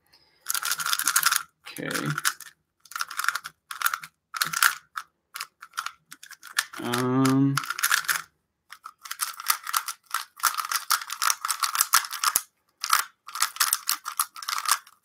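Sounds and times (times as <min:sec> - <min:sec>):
puzzle cube plastic clicking: 0:00.4 - 0:15.0.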